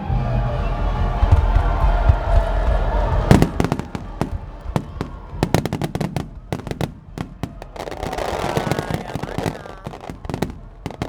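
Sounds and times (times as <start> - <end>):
fireworks bangs and crackles: 0.8 - 11.0.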